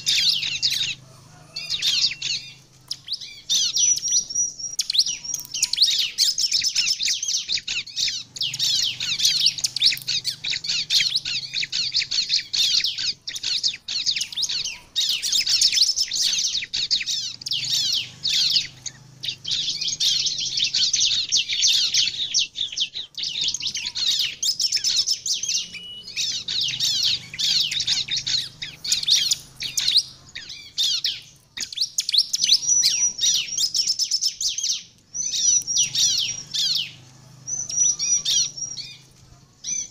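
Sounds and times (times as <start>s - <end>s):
bird singing rapid chirping trills: 0.0s - 39.9s.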